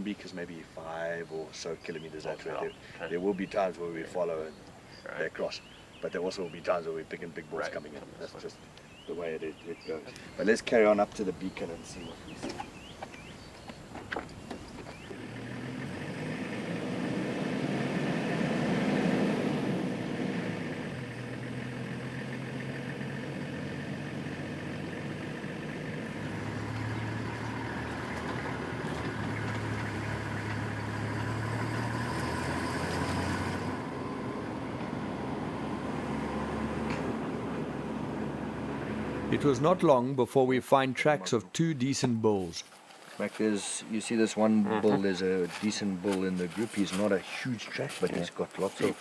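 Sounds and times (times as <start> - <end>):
vehicle engine driving: 0.0 - 40.0, 43.3 - 49.0.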